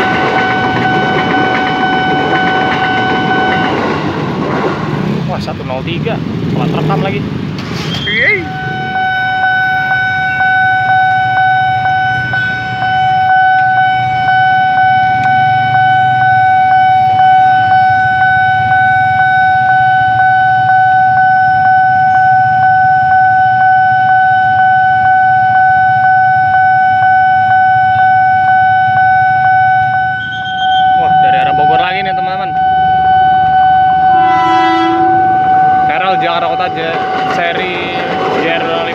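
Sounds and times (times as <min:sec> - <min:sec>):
level crossing alarm pulsing: 0:00.0 - 0:05.1, 0:08.0 - 0:38.9
idling road traffic rumble: 0:00.0 - 0:34.4, 0:35.0 - 0:38.9.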